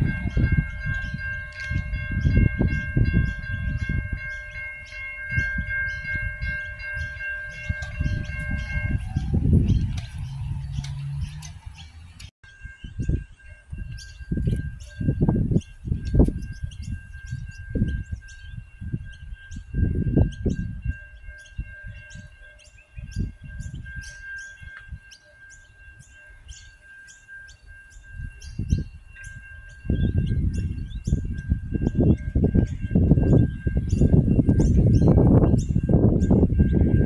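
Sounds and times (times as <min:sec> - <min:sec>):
steady high-pitched tone: 0:00.0 - 0:11.6, 0:12.5 - 0:37.0
wind gusting on microphone: 0:00.0 - 0:37.0
small birds chirping: 0:06.9 - 0:36.8.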